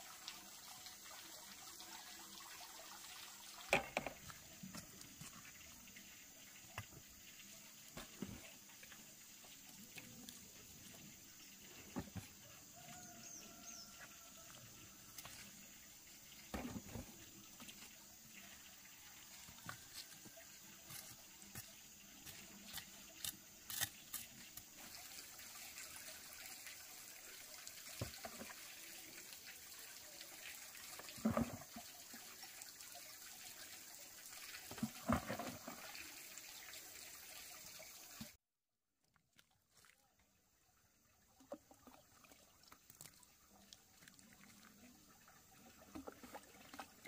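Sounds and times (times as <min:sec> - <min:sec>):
water trickling and splashing: 0:00.0 - 0:38.4, 0:39.0 - 0:47.0.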